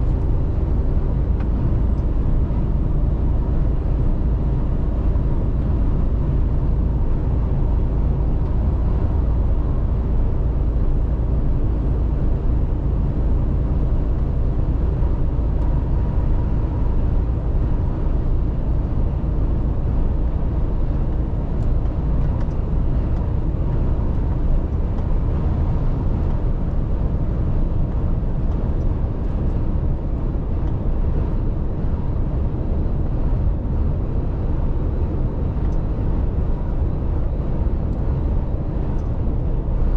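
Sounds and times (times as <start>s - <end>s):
truck driving drone: 0.0s - 39.9s.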